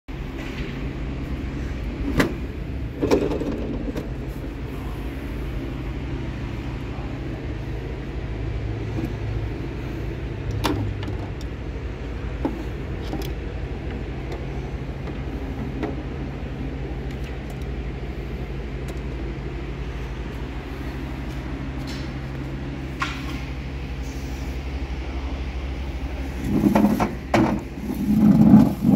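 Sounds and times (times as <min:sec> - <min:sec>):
low background hum: 0:00.1 - 0:28.9.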